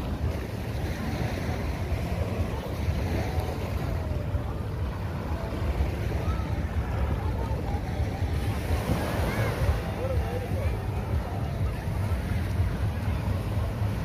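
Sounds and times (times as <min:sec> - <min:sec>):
faint voices: 0:00.0 - 0:14.0
sea surf: 0:00.0 - 0:14.0
wind buffeting microphone: 0:00.0 - 0:14.0.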